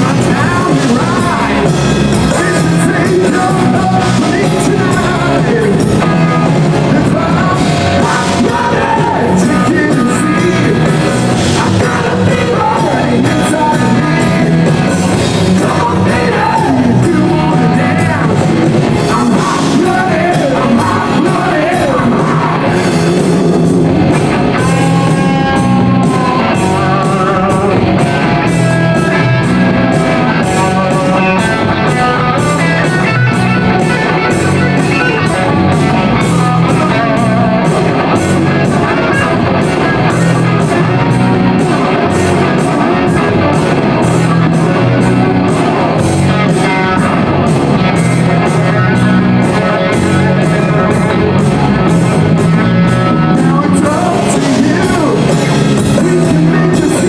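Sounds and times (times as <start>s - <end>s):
rock music: 0.0s - 57.0s.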